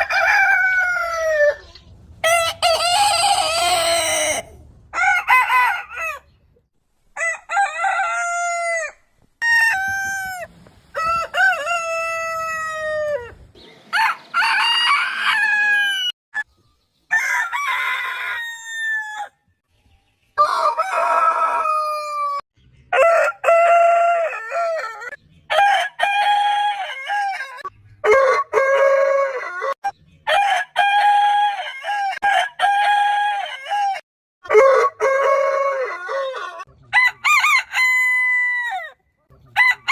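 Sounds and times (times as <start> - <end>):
roosters crowing: 0.0 - 6.4, 7.2 - 16.2, 17.1 - 19.4, 20.4 - 39.0, 39.6 - 39.9.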